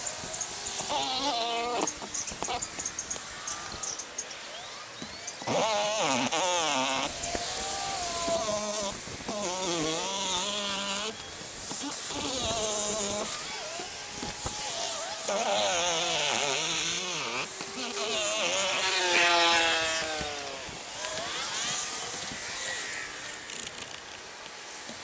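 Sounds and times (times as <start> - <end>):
power saw cutting roofing: 0.0 - 25.0.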